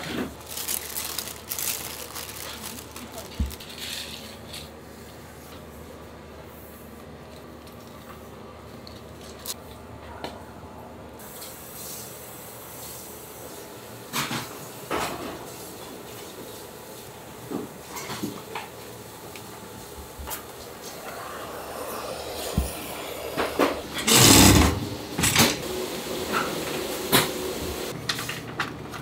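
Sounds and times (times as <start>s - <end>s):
kitchen equipment hum: 0.0s - 29.0s.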